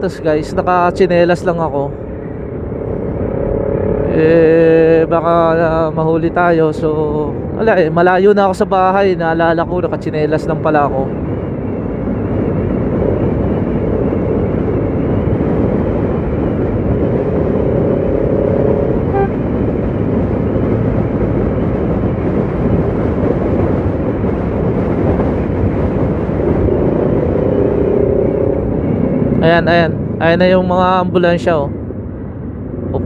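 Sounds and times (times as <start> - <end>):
faint traffic tone: 0.0 - 22.8, 25.4 - 33.0
motorcycle engine and road noise: 0.0 - 33.0
wind rushing over microphone: 0.0 - 33.0.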